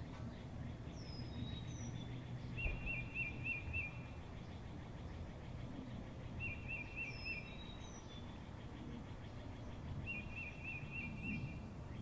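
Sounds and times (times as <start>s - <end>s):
bird singing: 0.0s - 12.0s
faint high bird calls: 0.0s - 12.0s
low outdoor background rumble: 0.0s - 12.0s.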